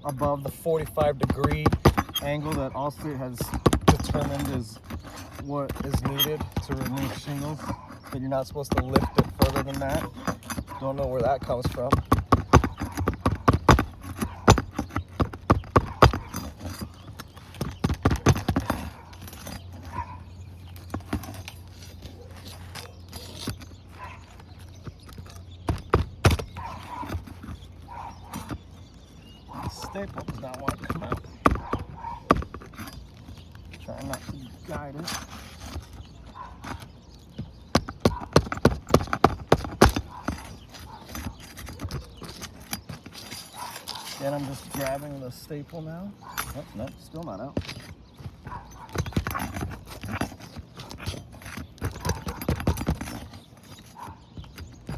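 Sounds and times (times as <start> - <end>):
hand tool tapping on shingles: 0.0 - 54.9.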